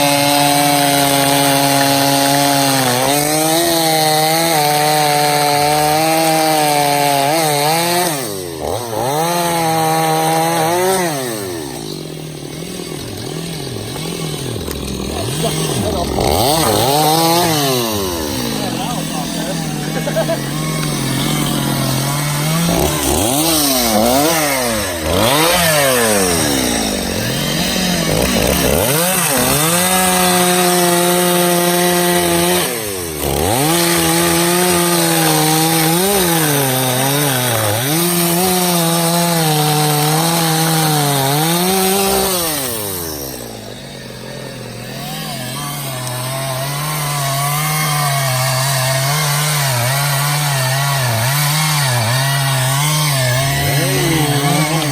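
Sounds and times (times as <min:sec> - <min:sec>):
chainsaw cutting logs: 0:00.0 - 0:54.9.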